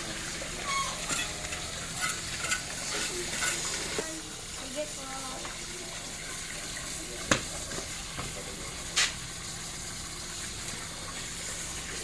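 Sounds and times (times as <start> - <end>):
water hissing from leaking pipe: 0.0 - 12.0.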